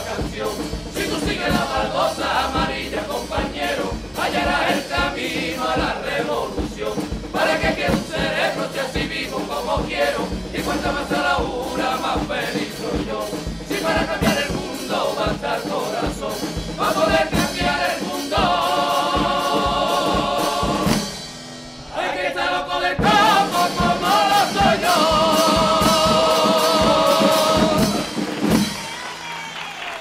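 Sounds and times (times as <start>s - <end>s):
men's choir singing in harmony: 0.0s - 21.2s, 21.8s - 28.7s.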